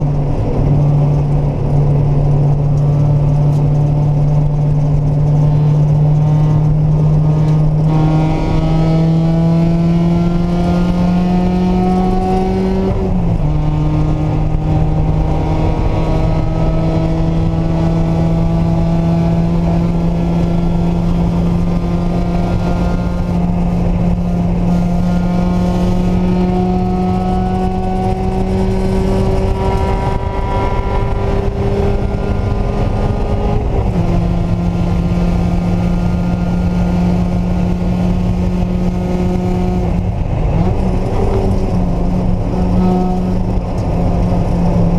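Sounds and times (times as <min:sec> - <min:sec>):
car engine running hard: 0:00.0 - 0:44.9.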